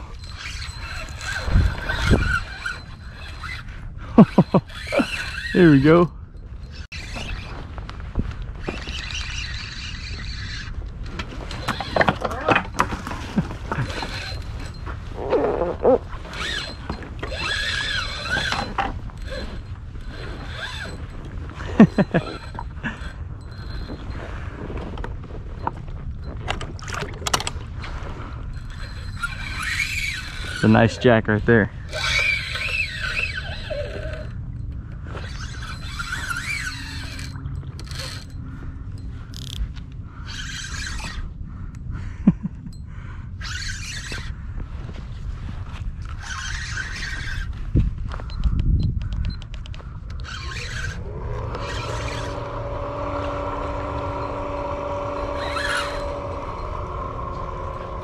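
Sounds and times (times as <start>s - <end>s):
fishing reel drag whine: 0.0s - 58.0s.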